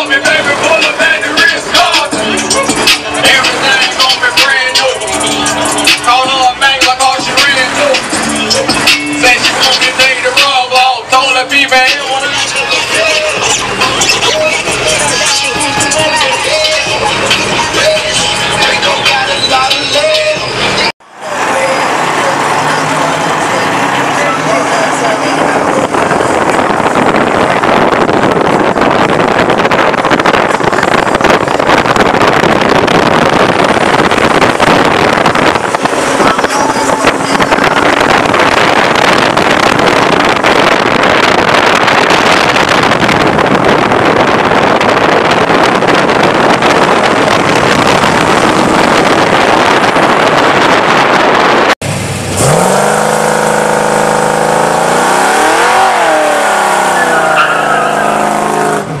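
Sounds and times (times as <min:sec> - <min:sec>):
car engine and tyre noise: 0:00.0 - 0:59.0
car engine idling and revving: 0:00.0 - 0:59.0.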